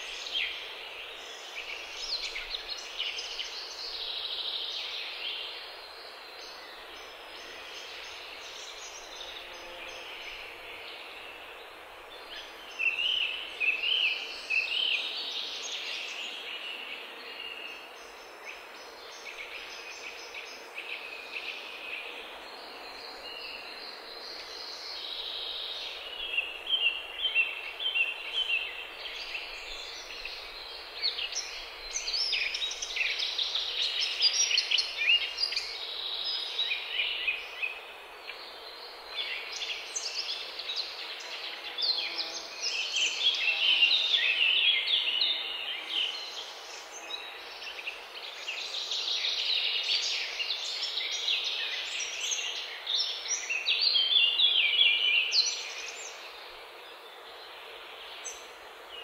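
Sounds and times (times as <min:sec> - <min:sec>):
faint outdoor hiss: 0:00.0 - 0:59.0
songbirds chirping: 0:00.0 - 0:59.0.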